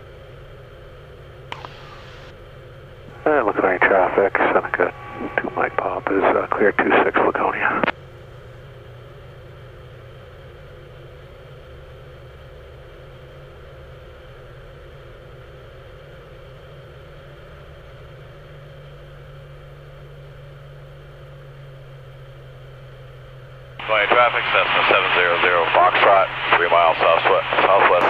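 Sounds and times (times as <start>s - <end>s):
airplane engine and propeller droning: 0.0s - 28.0s.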